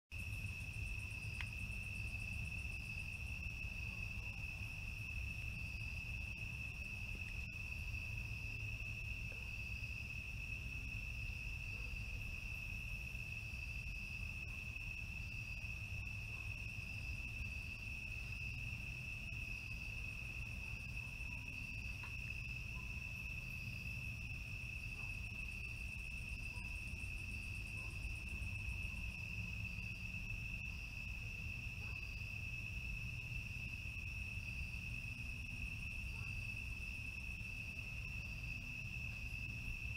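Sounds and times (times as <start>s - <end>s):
faint pulsing insect call: 0.1s - 39.9s.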